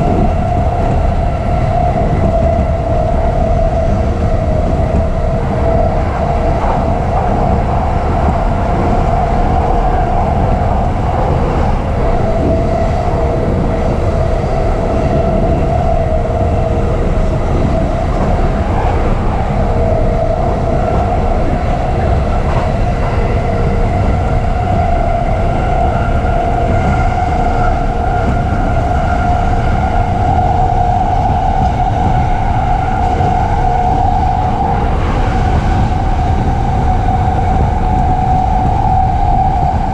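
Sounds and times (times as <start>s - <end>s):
humming whine: 0.0s - 39.9s
train rolling rumble: 0.0s - 39.9s.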